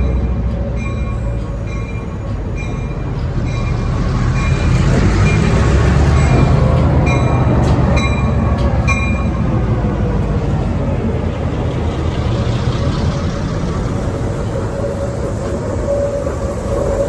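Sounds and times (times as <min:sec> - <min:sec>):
diesel locomotive rumbling past: 0:00.0 - 0:17.0.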